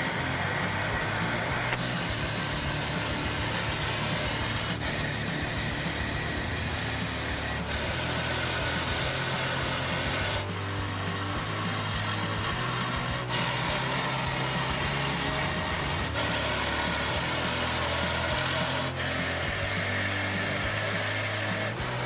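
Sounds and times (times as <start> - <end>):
helicopter engine drone with whine: 0.0 - 22.0.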